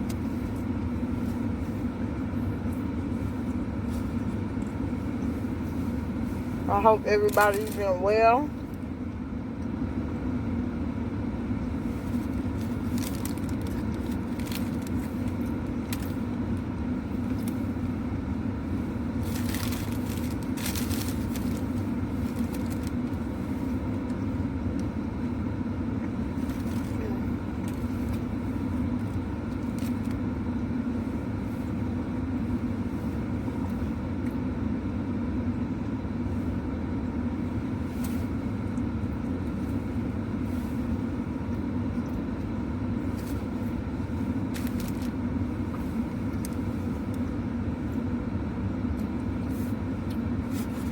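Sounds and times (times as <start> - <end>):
low hum in car cabin: 0.0 - 50.9.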